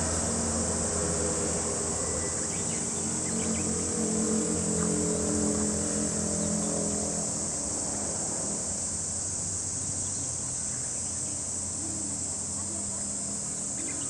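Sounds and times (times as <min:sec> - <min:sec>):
cicadas droning: 0:00.0 - 0:14.0
passing vehicle engine hum: 0:00.0 - 0:14.0.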